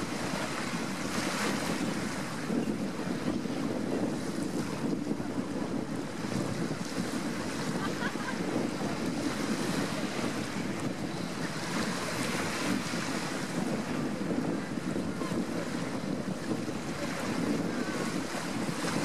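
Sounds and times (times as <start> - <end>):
small waves washing: 0.0 - 19.0
wind rumbling on microphone: 0.0 - 19.0.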